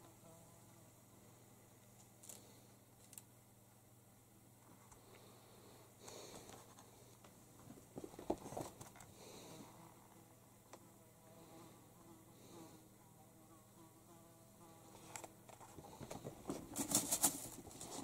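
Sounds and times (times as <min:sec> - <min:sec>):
faint buzzing: 0:00.0 - 0:18.0
low steady hum: 0:00.0 - 0:18.0.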